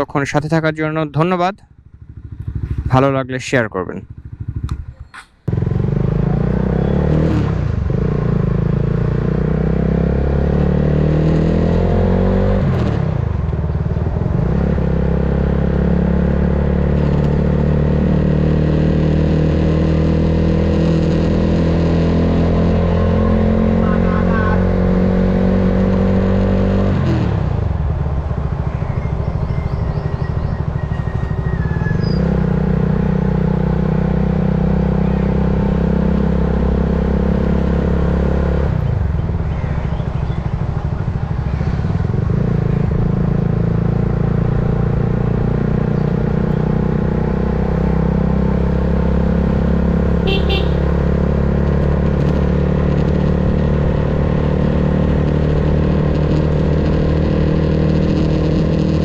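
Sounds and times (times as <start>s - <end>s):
motorcycle engine running: 0.9s - 11.2s, 11.8s - 59.0s.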